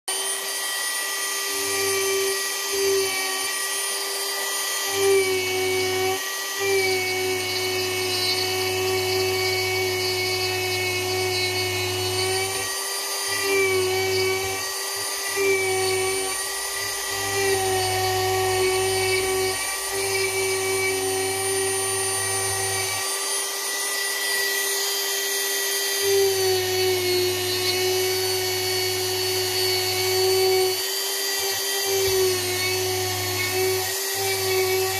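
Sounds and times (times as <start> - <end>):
rotary tool carving wood: 0.1 - 34.9.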